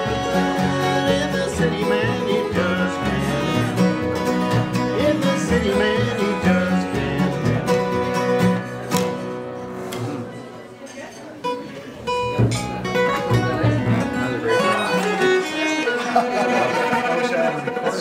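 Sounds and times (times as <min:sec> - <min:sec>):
plucked banjo and guitar: 0:00.0 - 0:18.0.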